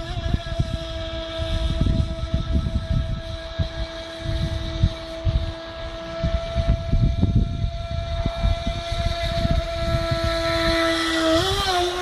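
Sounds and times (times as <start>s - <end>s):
toy boat motor whining: 0.0s - 12.0s
wind buffeting microphone: 0.0s - 12.0s.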